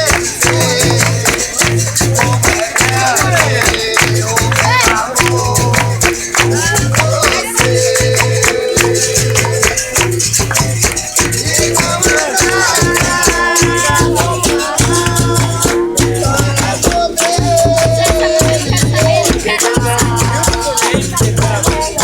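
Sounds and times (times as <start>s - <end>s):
berimbaus struck in rhythm: 0.0s - 22.0s
group call-and-response singing: 0.0s - 22.0s
hand clapping: 0.0s - 22.0s
shaker rattles: 0.0s - 22.0s.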